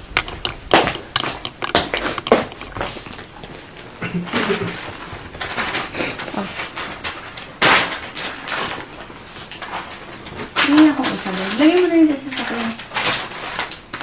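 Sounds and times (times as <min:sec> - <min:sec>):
small items rustling in a handbag: 0:01.8 - 0:14.0.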